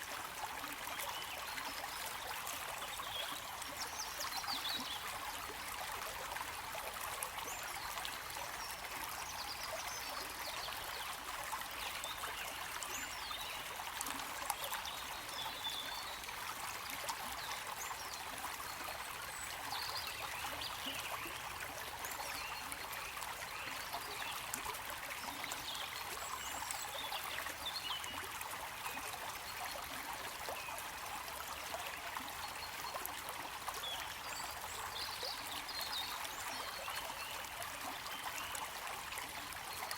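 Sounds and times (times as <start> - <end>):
small water splashes and bubbles: 0.0 - 39.9.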